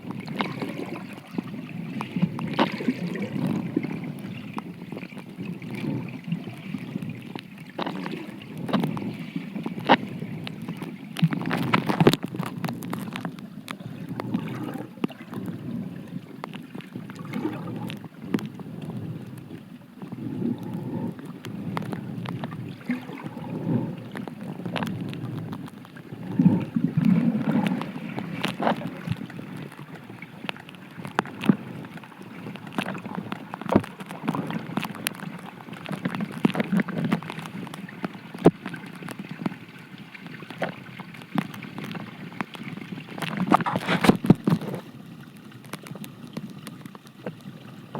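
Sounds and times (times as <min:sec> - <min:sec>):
muffled underwater rushing: 0:00.0 - 0:47.9
sharp little underwater clicks: 0:00.0 - 0:47.9.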